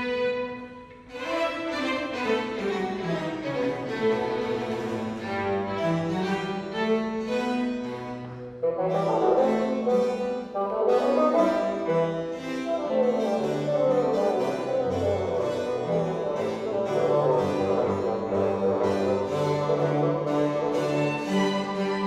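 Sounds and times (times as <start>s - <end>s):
bassoon: 0.0s - 22.0s
string ensemble: 0.0s - 22.0s.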